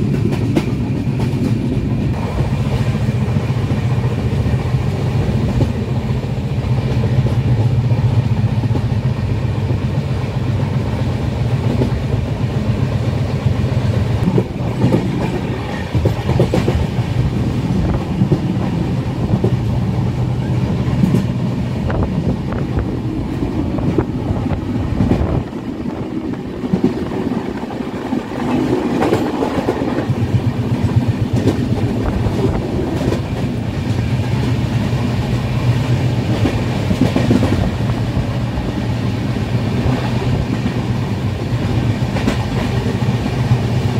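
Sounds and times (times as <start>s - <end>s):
train rumbling on track: 0.0s - 43.9s.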